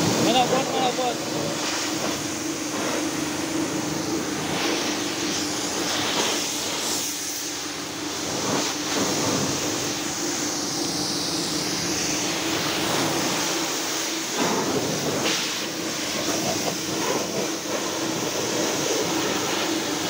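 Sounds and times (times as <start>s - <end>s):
pump motor humming: 0.0s - 20.0s.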